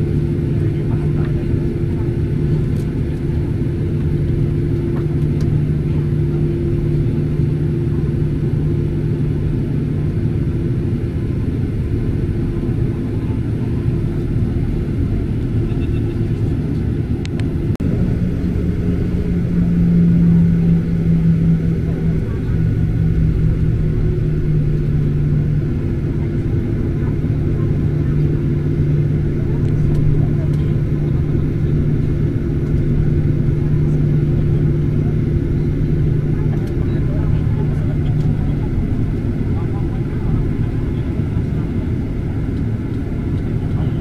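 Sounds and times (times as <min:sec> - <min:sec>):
jet engines rumbling in cabin: 0:00.0 - 0:44.0.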